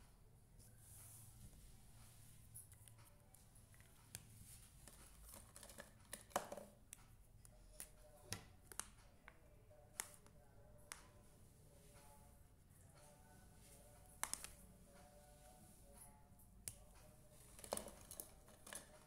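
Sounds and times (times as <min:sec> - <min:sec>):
faint clicks and taps: 0:01.4 - 0:12.2, 0:12.8 - 0:19.0.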